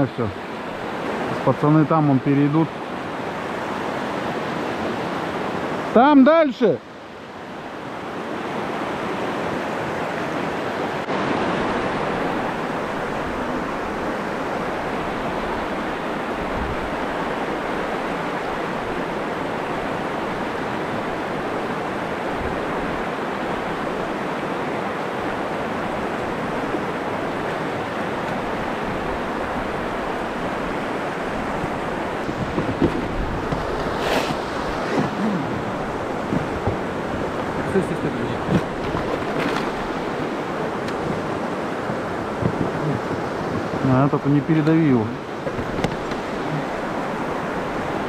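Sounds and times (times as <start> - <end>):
river rapids rushing: 0.0 - 48.0.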